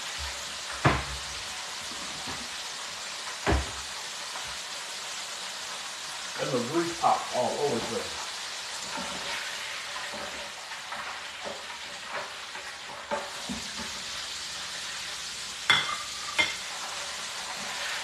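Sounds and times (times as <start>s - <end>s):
chicken sizzling in deep fryer: 0.0s - 18.0s.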